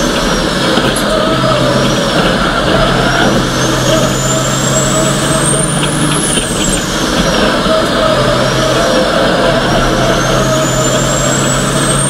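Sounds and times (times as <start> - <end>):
diesel engine running hard: 0.0 - 12.0
thin high whine: 0.0 - 12.0.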